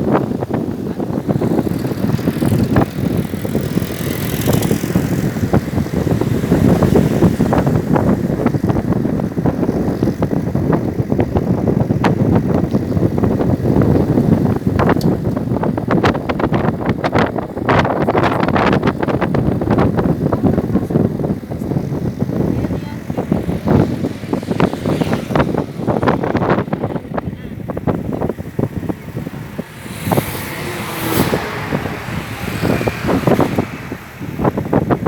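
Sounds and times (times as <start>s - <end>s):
vehicle rumble: 0.0s - 35.0s
wind buffeting microphone: 0.0s - 35.0s.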